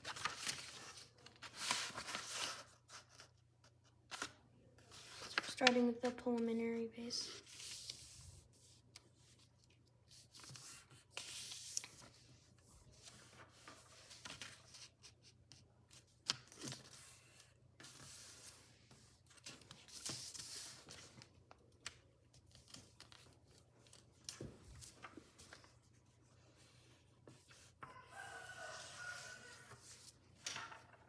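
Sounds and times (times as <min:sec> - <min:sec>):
paper rustling and creasing: 0:00.0 - 0:06.2, 0:07.3 - 0:31.0.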